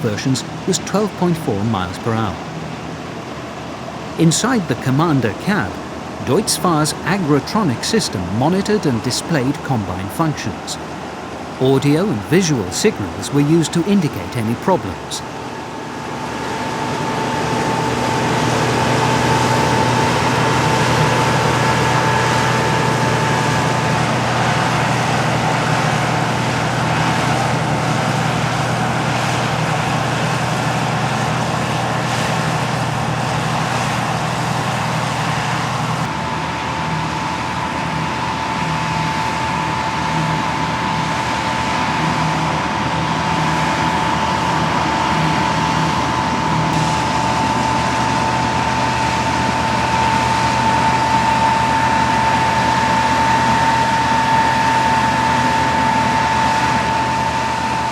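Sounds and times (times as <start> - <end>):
combine harvester running: 0.0 - 57.9
high whine: 0.0 - 57.9.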